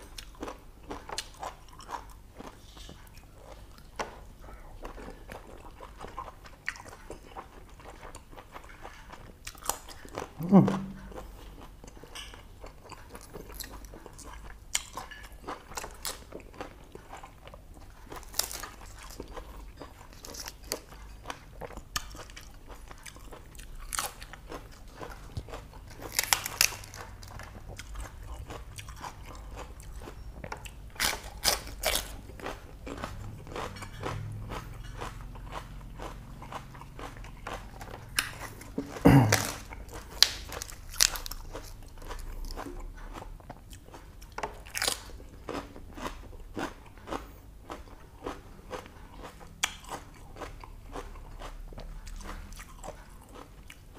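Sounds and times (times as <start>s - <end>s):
person chewing and crunching: 0.0s - 53.9s.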